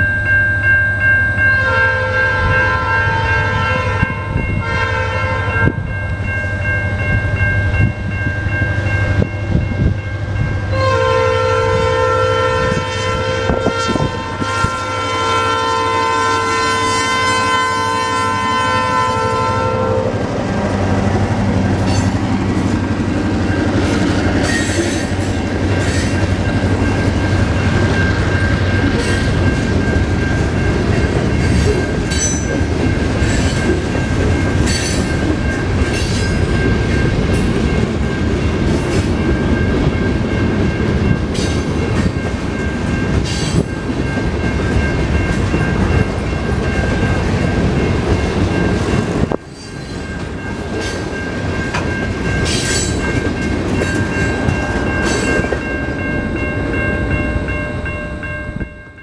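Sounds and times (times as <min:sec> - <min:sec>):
crossing bell ringing: 0:00.0 - 0:59.0
freight train rumble: 0:00.0 - 0:59.0.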